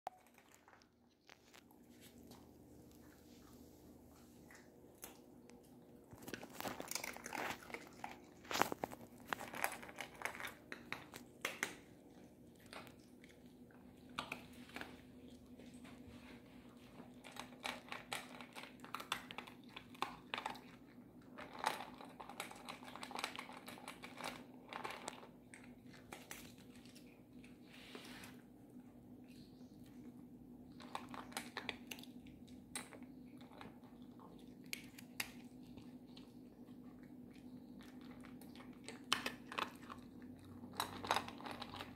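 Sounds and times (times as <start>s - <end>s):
dog crunching dry kibble: 0.1s - 3.5s, 4.1s - 27.6s, 30.7s - 41.9s.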